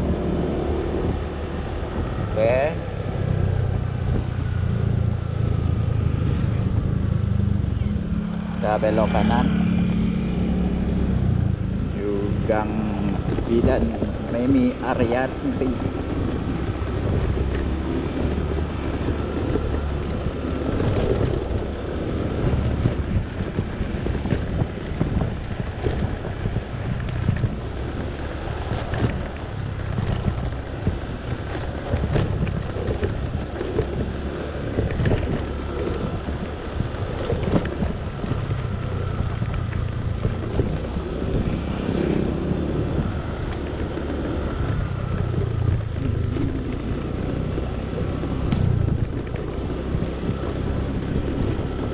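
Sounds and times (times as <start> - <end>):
scooter engine running: 0.0 - 51.9
wind buffeting microphone: 0.0 - 51.9.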